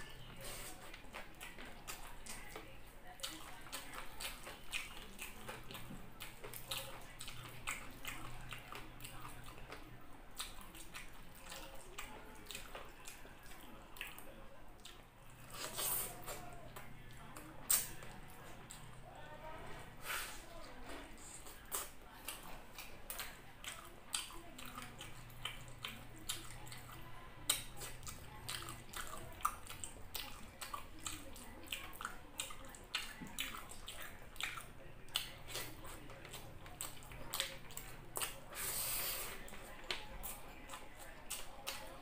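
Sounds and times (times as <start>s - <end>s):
wet chewing and lip-smacking: 0.0s - 19.0s, 20.9s - 42.0s.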